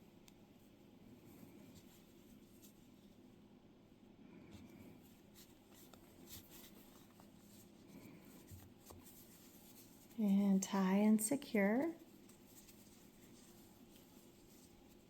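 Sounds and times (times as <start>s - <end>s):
faint yarn scratching: 0.2s - 3.3s, 4.2s - 15.0s.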